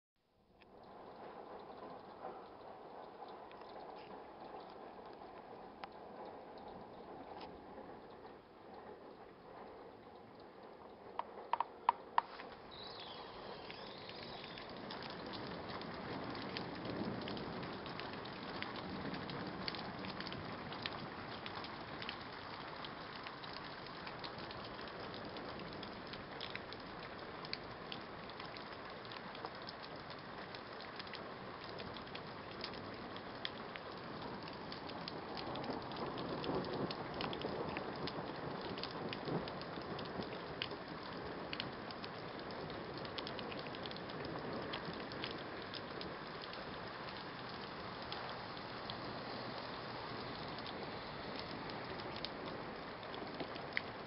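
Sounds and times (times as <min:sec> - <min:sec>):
rain pattering: 0:00.3 - 0:54.0.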